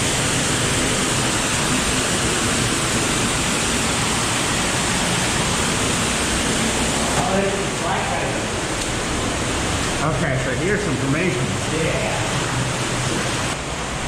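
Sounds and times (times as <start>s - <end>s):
underground stream and waterfall rushing: 0.0s - 14.0s.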